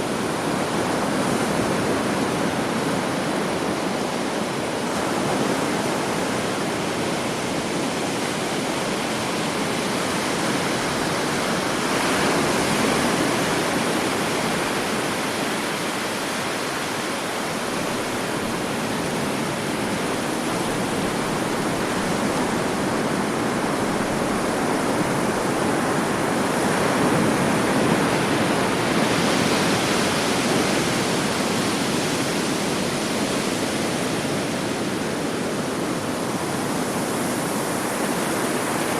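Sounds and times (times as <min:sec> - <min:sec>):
surf washing onto beach: 0:00.0 - 0:38.9.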